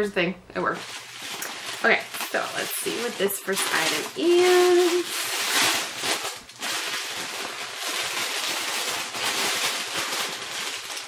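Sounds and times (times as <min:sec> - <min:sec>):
paper wrapping crinkling: 0:00.8 - 0:11.0.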